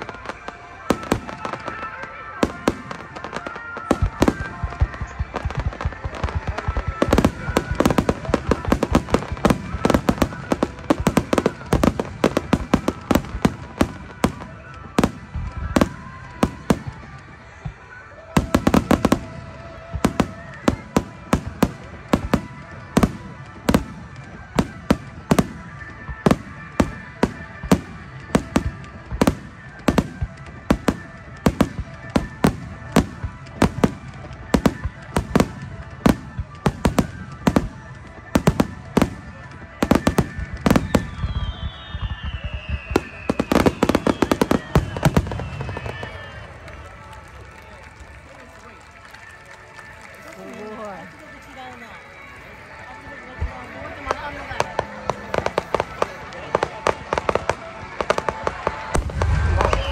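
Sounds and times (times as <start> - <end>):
fireworks bursting with sharp bangs: 0.0 - 59.9
music: 0.0 - 59.9.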